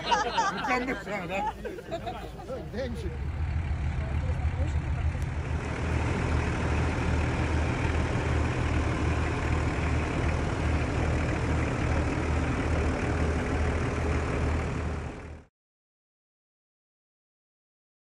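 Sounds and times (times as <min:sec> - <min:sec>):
vehicle engine throbbing: 0:00.0 - 0:15.5.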